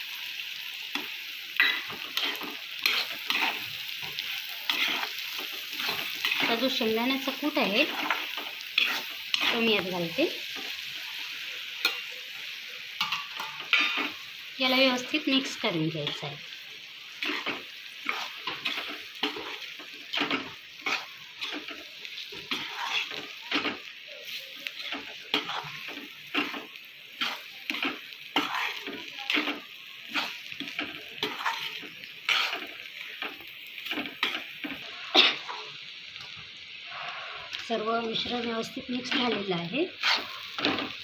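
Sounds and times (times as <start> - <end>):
frying sizzle: 0.0 - 41.0
spoon scraping pan: 0.9 - 10.9, 13.0 - 16.3, 17.2 - 35.7, 39.0 - 41.0.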